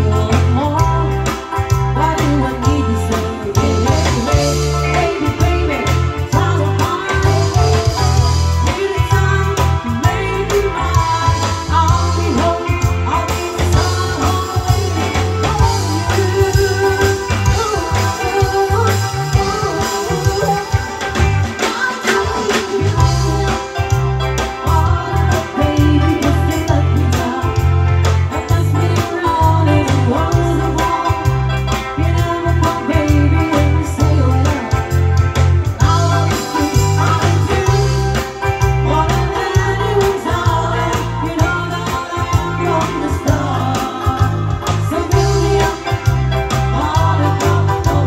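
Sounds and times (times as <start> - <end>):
women singing: 0.0 - 34.9, 35.8 - 48.0
live pop band through pa: 0.0 - 48.0.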